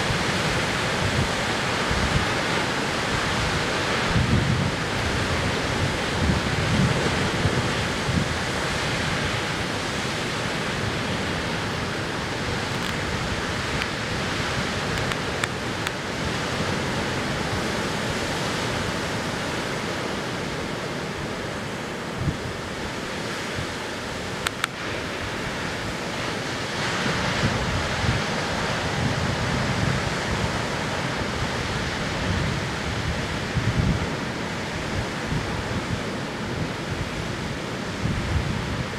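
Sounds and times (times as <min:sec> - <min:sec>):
wind buffeting microphone: 0:00.0 - 0:20.7, 0:22.0 - 0:38.9
heavy surf breaking: 0:00.0 - 0:38.9.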